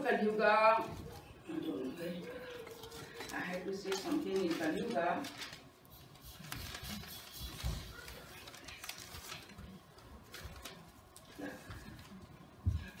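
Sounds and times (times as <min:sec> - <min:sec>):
paper rustling: 0:02.2 - 0:12.9.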